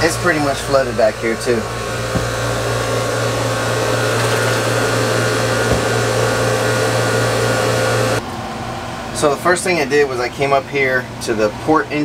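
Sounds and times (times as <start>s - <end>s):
engine room machinery humming: 0.0s - 12.0s.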